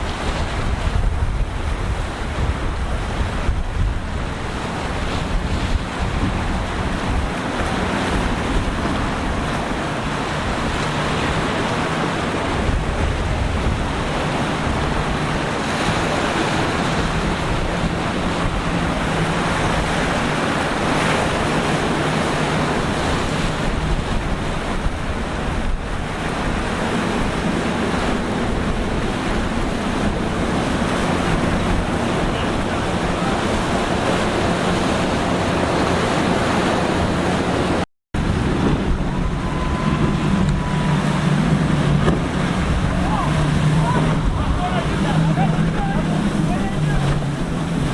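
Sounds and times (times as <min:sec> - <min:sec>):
boat engines humming: 0:00.0 - 0:47.9
surf and breaking waves: 0:00.0 - 0:47.9
wind buffeting microphone: 0:00.0 - 0:47.9.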